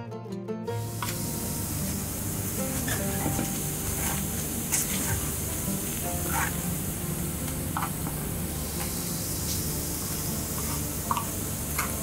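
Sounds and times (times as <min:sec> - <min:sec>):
vegetables sizzling on a griddle: 0:00.8 - 0:12.0.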